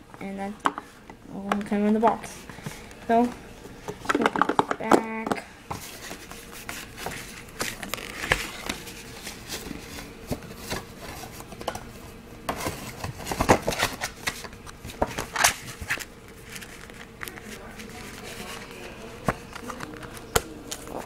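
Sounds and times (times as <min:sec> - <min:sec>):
cardboard and plastic rustling: 0:01.6 - 0:21.0.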